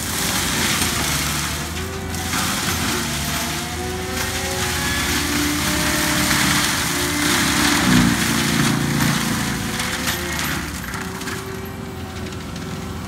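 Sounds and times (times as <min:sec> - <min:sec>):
loader engine drone: 0:00.0 - 0:13.0
mulching head grinding wood: 0:00.0 - 0:13.0.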